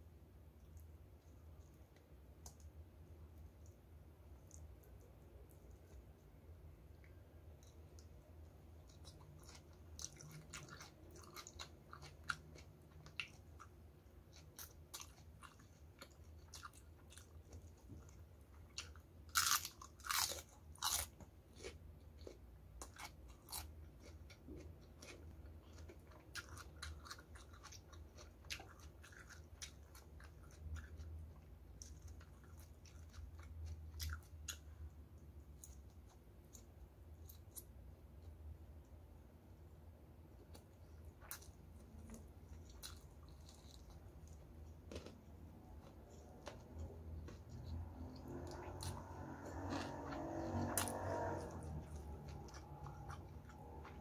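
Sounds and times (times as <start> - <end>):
crunchy chewing of fried chicken: 7.6 - 38.3, 40.4 - 54.0.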